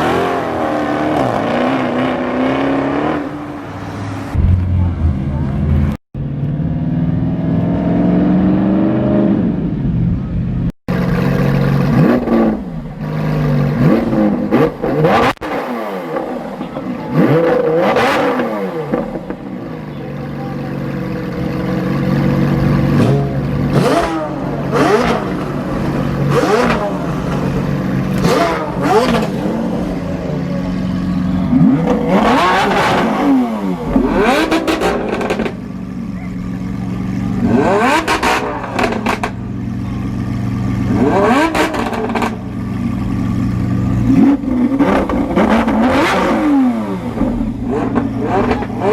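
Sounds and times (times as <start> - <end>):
car engine revving: 0.0 - 10.3, 10.9 - 48.9.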